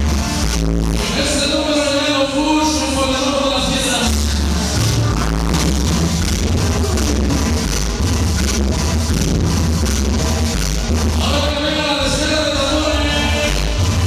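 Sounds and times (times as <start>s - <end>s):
cumbia music over sound system: 0.0s - 14.0s
heavy bass beat: 0.0s - 14.0s.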